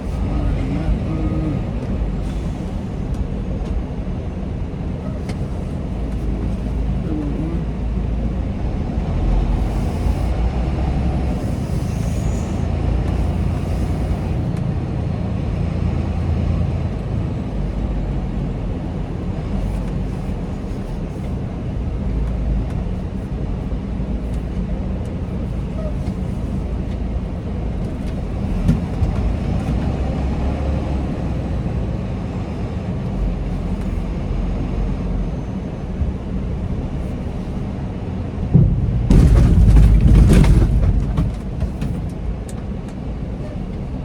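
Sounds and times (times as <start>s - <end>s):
truck engine and road noise: 0.0s - 44.0s.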